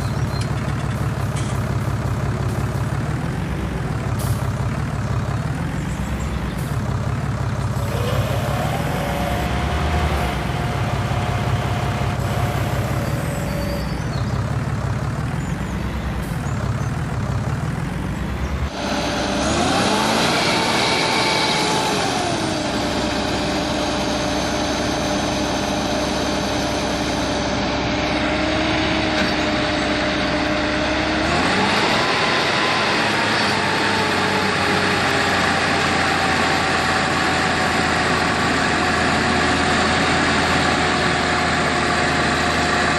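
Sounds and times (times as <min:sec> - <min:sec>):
engine revving: 0:00.0 - 0:42.9
heavy diesel engines revving: 0:00.0 - 0:42.9.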